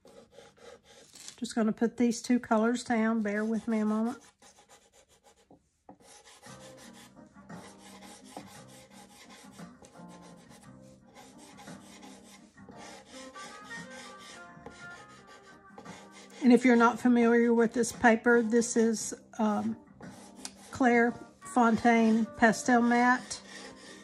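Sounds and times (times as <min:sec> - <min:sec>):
pencil scratching on gritty paper: 0:00.0 - 0:01.2, 0:02.6 - 0:24.0
faint music: 0:00.0 - 0:24.0.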